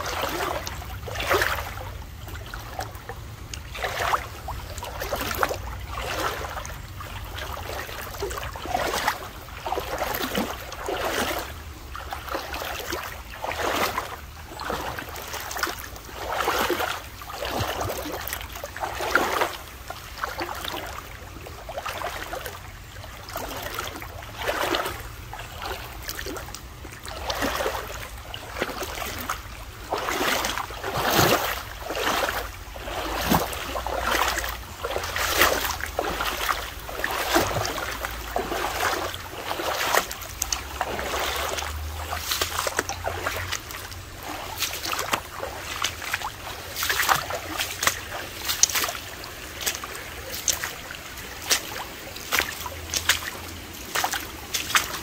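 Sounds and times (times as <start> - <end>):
footsteps splashing in shallow water: 0.0 - 55.0.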